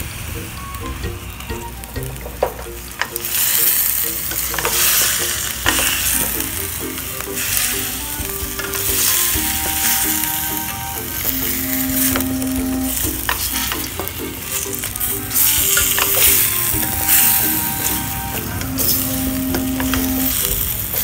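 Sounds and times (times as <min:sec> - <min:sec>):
food sizzling in a pot: 0:00.1 - 0:21.0.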